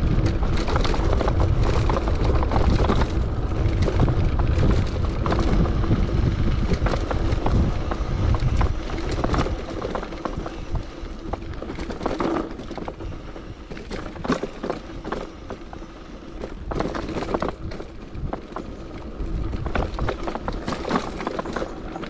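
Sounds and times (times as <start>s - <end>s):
bicycle rattling over rough ground: 0.0s - 22.0s
wind rumbling on microphone: 0.0s - 22.0s.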